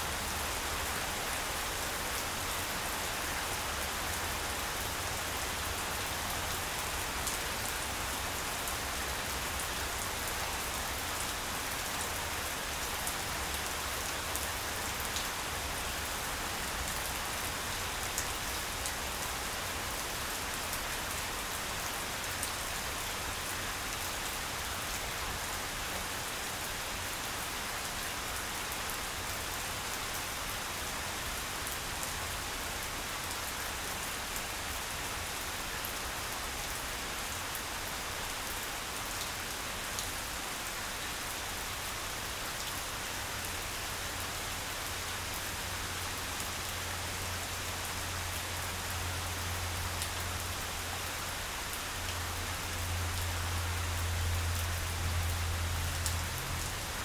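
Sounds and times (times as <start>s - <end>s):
rain falling on grass: 0.0s - 57.0s.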